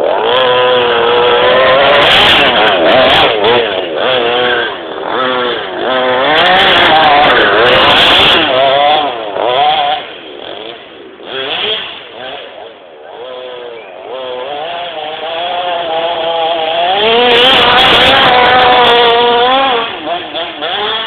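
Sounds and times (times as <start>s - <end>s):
model truck engine revving: 0.0s - 21.0s.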